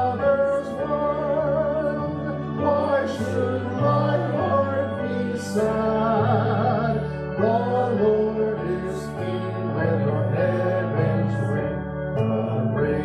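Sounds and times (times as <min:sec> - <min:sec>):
person singing long wavering notes: 0:00.0 - 0:13.0
sustained low bass notes: 0:00.0 - 0:13.0.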